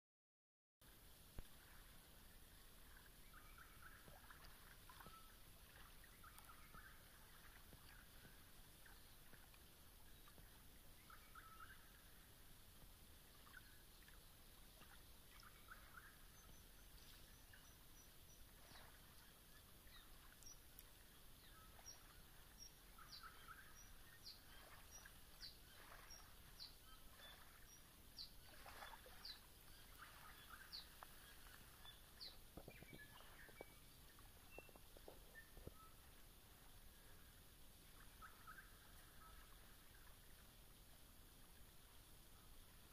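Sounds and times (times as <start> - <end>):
low hiss: 0.8 - 42.9
faint bird calls: 2.6 - 12.4, 14.8 - 40.4.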